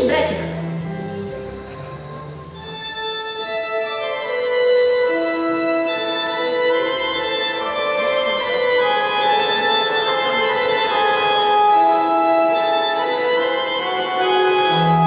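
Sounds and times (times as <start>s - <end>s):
music with organ-like chords: 0.4s - 15.0s.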